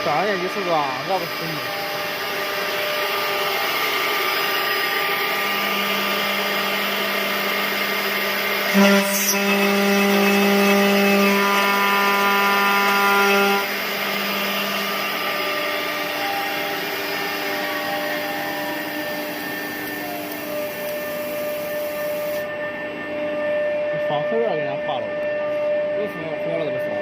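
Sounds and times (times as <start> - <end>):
milling machine spindle whine: 0.0 - 27.0.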